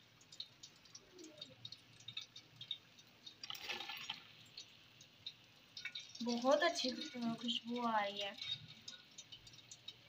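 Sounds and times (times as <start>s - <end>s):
hot oil crackling: 0.0s - 10.0s.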